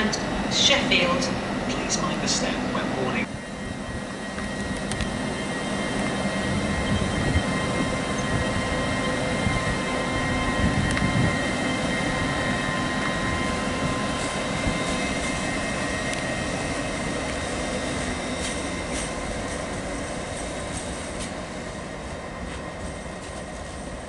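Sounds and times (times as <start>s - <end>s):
train rumbling with high whine: 0.0s - 24.0s.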